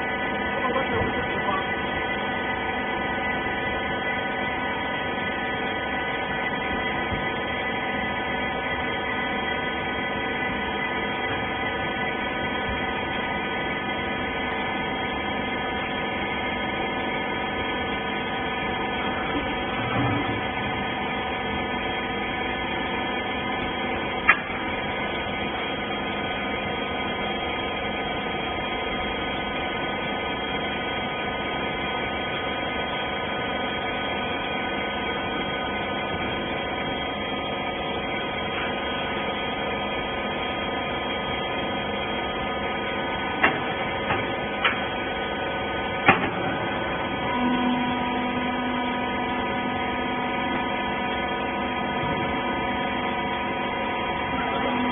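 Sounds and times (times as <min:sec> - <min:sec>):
motor and pump humming: 0:00.0 - 0:54.9.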